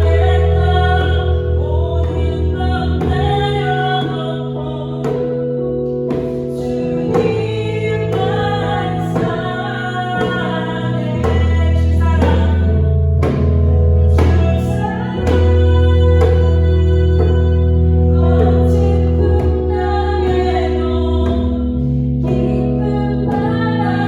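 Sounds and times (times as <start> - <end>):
instrumental accompaniment: 0.0 - 24.0
person singing worship song: 0.0 - 24.0.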